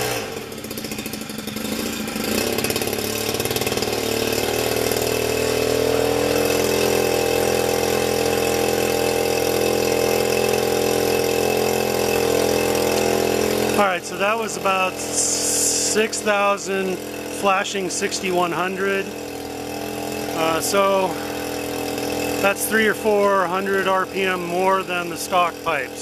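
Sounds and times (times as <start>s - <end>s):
model aircraft engine revving: 0.0s - 26.0s.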